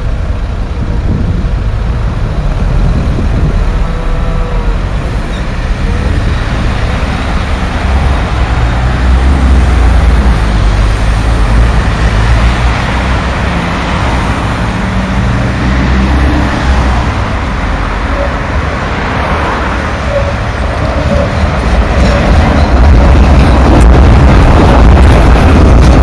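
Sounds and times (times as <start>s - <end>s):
cars passing: 0.0s - 26.0s
tram approaching: 0.0s - 26.0s.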